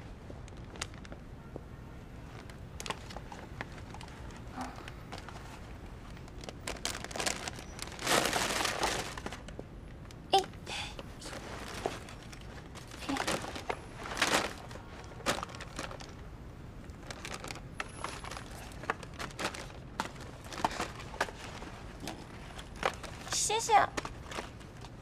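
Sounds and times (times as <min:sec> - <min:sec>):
plastic packets crinkling: 0:02.2 - 0:10.4, 0:11.2 - 0:25.0.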